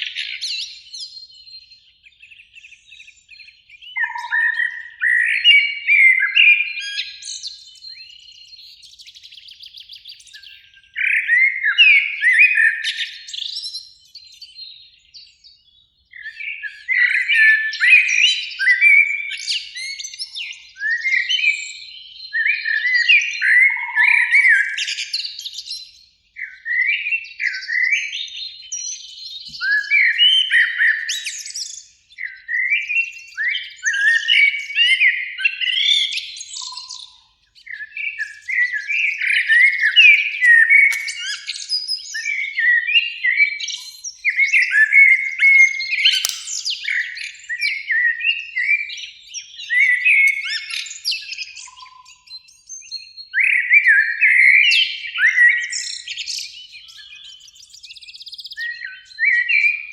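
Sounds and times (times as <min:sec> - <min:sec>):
blackbirds singing: 0:00.0 - 0:59.9.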